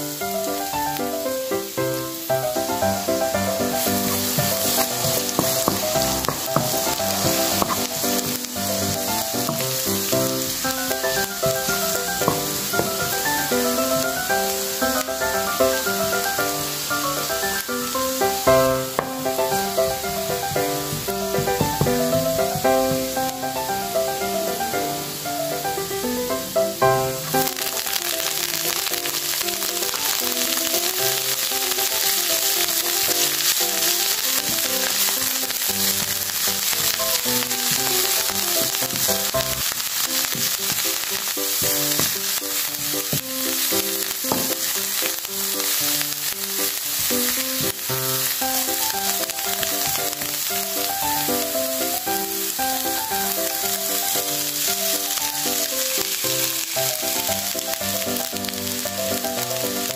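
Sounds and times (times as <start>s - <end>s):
background music: 0.0s - 59.9s
food sizzling in hot oil: 0.0s - 59.9s
wooden spatula stirring: 2.5s - 23.4s, 27.2s - 59.9s.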